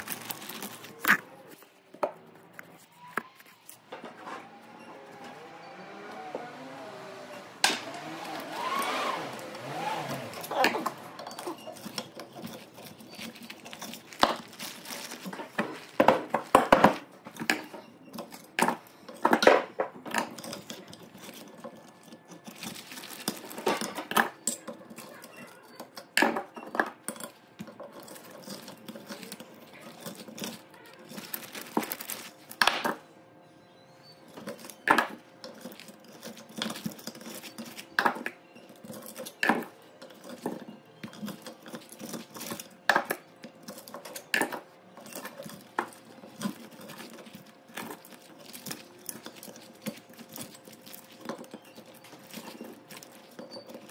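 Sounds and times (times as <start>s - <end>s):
metal tools clinking on motor: 3.0s - 33.0s, 33.6s - 53.9s.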